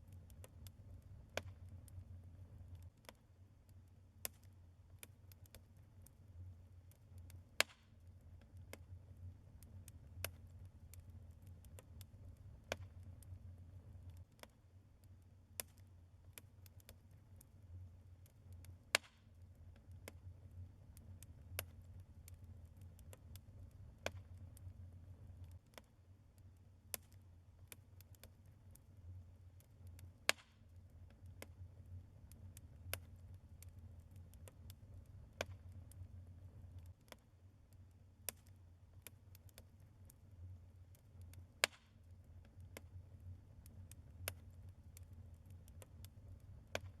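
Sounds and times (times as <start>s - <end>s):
logs crackling in fireplace: 0.0s - 47.0s
low steady hum: 0.0s - 47.0s.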